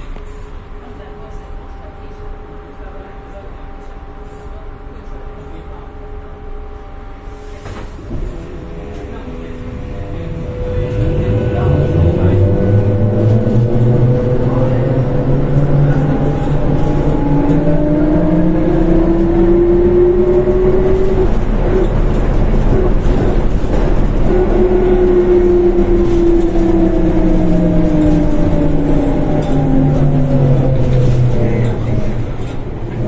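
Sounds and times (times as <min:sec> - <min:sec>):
bus engine whine: 0:00.0 - 0:33.0.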